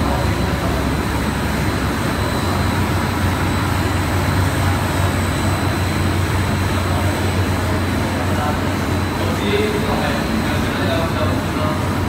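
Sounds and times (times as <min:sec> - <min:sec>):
burner blower fan running: 0:00.0 - 0:12.0.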